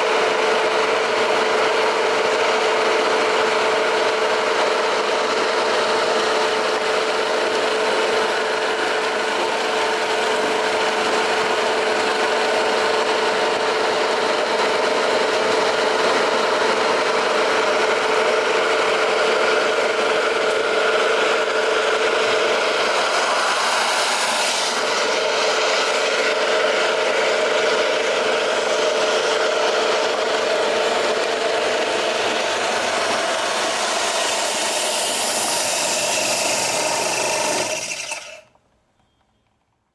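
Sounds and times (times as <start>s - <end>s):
wet grinder grinding: 0.0s - 38.6s
motor hum: 0.0s - 38.7s.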